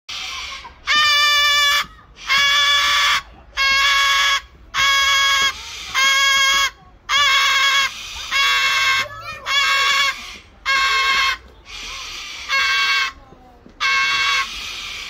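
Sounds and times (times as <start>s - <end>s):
cockatoo squawking: 0.1s - 13.2s, 13.8s - 15.0s.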